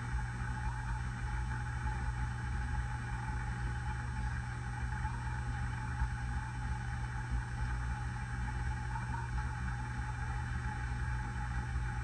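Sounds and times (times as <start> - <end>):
ceiling fan running: 0.0 - 12.0.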